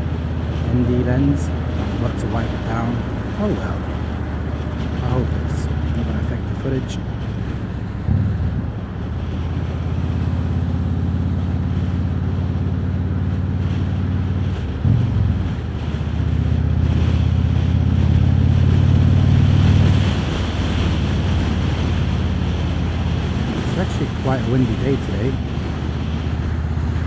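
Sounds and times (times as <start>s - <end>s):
motorcycle engine cruising: 0.0s - 27.0s
wind rushing over microphone: 0.0s - 27.0s.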